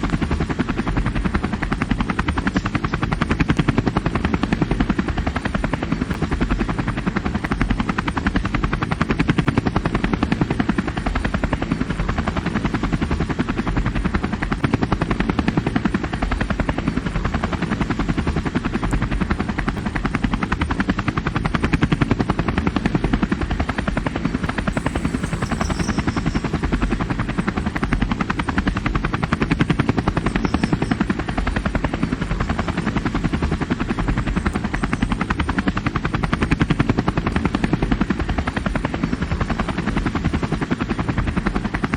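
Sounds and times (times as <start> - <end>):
helicopter rotor blades chopping: 0.0 - 41.9.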